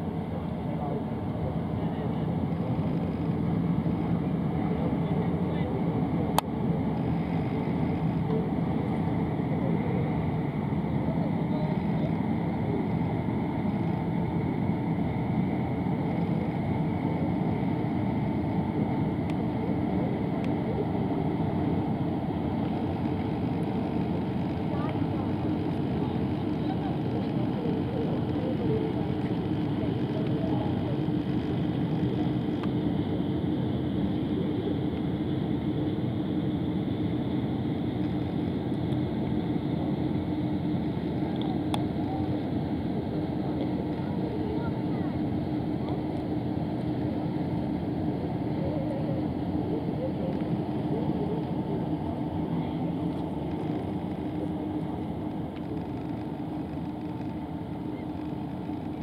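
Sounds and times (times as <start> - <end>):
faint high hum: 0.0 - 59.0
ship engine rumble: 0.0 - 59.0.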